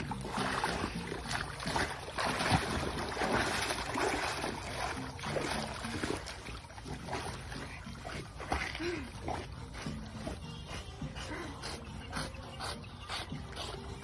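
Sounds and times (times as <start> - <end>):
dog swimming splashing water: 0.0 - 14.0.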